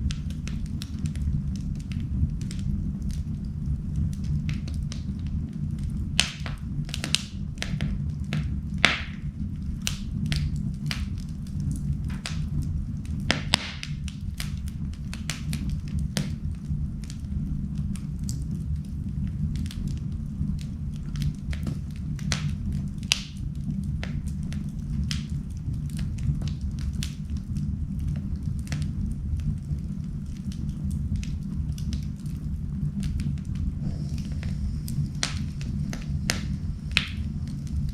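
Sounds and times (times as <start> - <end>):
fireplace fire crackling: 0.0 - 37.9
loud fire pops: 0.0 - 37.9.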